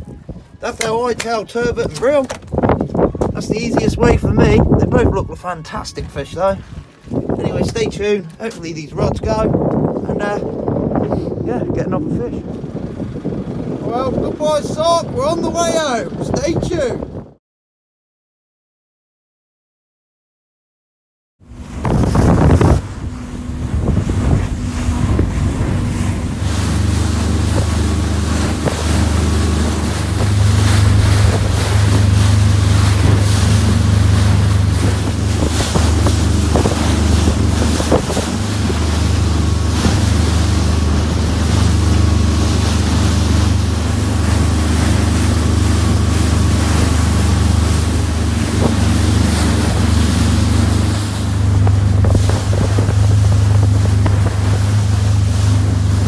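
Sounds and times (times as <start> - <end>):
boat engine drone: 0.0 - 16.8, 21.4 - 56.0
water rushing past hull: 0.0 - 17.2, 21.4 - 56.0
wind buffeting microphone: 0.0 - 17.4, 21.4 - 56.0.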